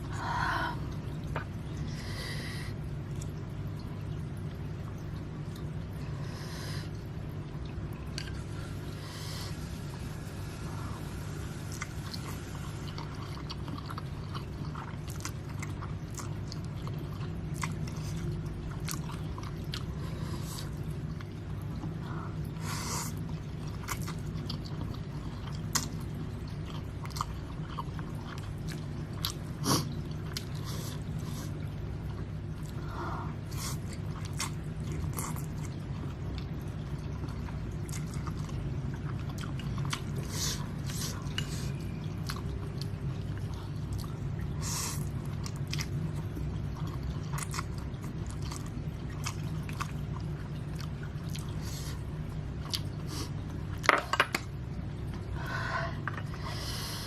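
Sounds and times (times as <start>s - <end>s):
steady low hum: 0.0s - 57.0s
person chewing noodles: 7.7s - 53.9s.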